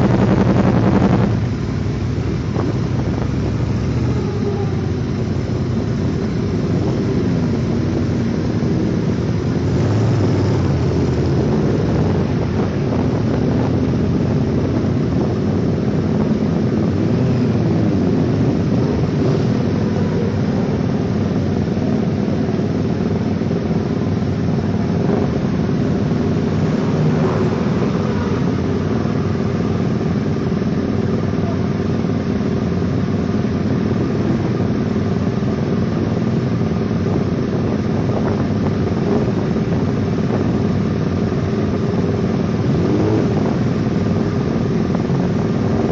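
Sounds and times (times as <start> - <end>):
motorcycle engines idling: 0.0 - 45.9
motorcycles revving: 0.0 - 45.9.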